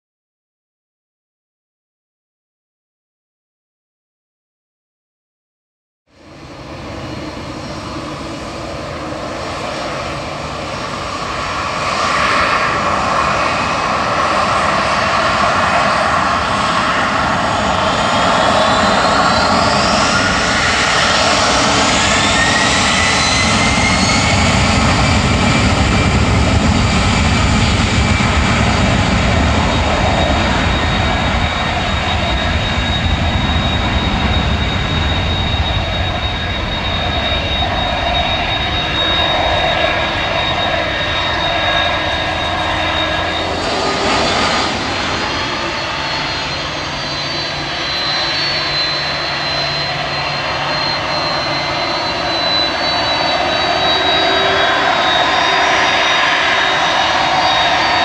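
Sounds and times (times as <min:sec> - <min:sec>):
jet engines whining: 0:06.2 - 0:58.0.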